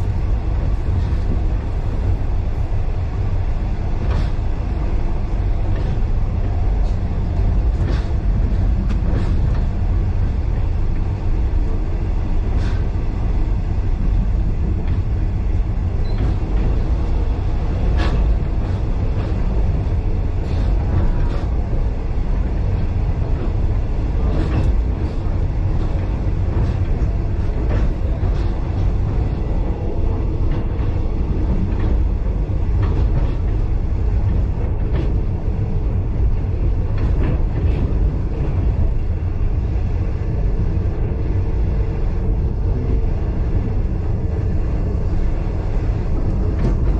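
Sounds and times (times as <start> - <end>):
rumble of wheels on rail: 0.0 - 46.9.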